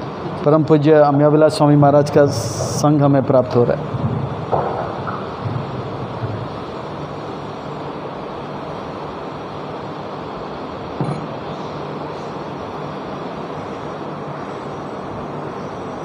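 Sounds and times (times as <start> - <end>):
low rumbling room noise: 0.0 - 16.0.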